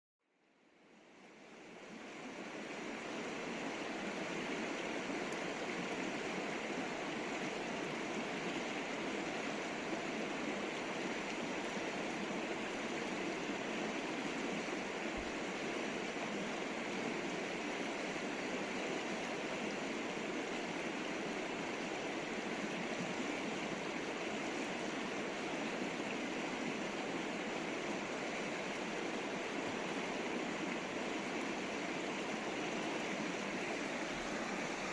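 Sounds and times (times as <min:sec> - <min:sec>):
river water rushing: 0:01.2 - 0:34.9.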